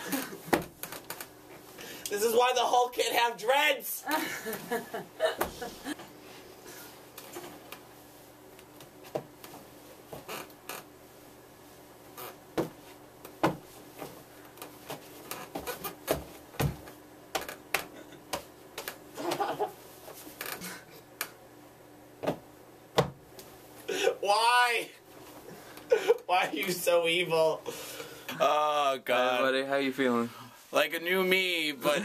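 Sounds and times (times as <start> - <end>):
low room hum: 0.0 - 32.0.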